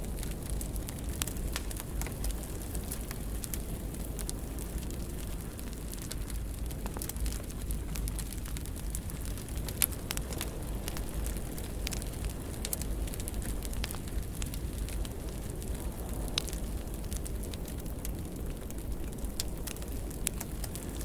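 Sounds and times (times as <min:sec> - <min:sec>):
fire crackling and popping: 0:00.0 - 0:21.0
wood fire rumbling and hissing: 0:00.0 - 0:21.0.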